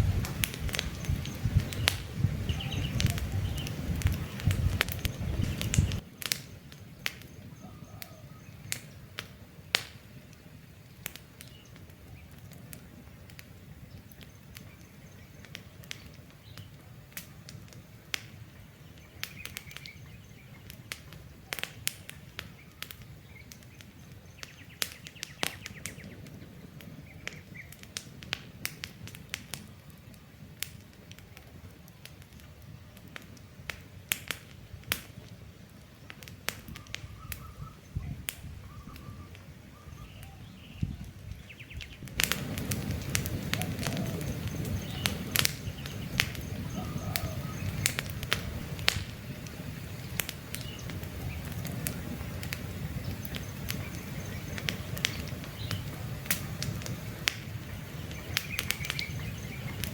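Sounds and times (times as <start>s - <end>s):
birds chirping faintly: 0.0s - 28.0s, 34.6s - 59.9s
campfire crackling and popping: 0.0s - 59.9s.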